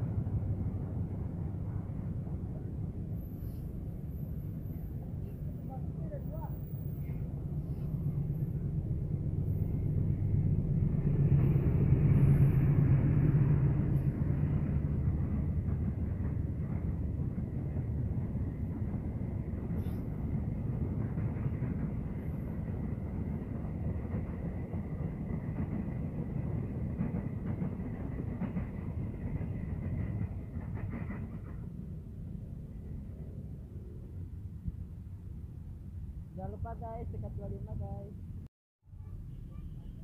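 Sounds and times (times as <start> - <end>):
train wheels rumbling on track: 0.0 - 34.2.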